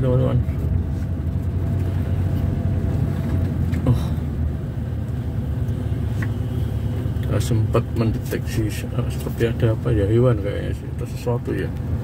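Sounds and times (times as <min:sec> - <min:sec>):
vehicle driving on road: 0:00.0 - 0:12.0.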